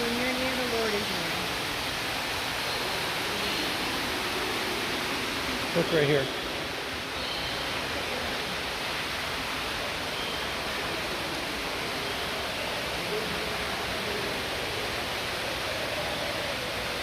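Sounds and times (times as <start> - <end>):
indoor waterfall rushing: 0.0 - 17.0.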